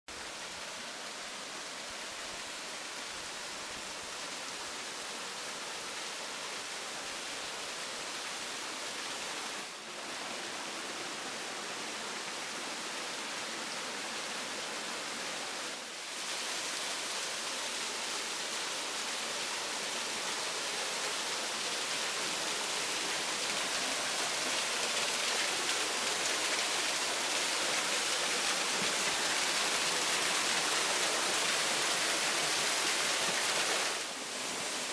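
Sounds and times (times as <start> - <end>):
waterfall rushing: 6.8 - 34.9.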